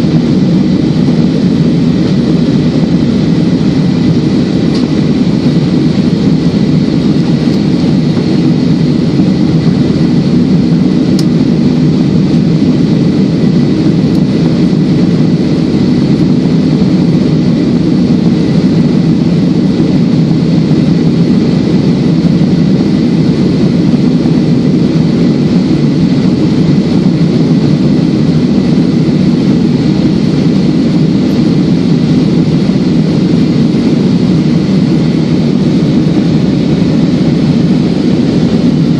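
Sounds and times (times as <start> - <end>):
airliner cabin engine rush: 0.0 - 38.9
thin steady whine: 0.0 - 38.9.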